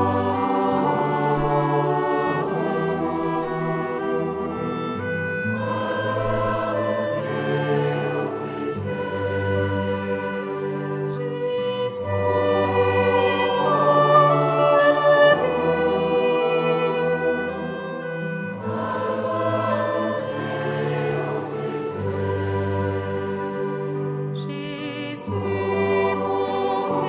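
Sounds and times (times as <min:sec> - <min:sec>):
choir singing a chant: 0:00.0 - 0:27.0.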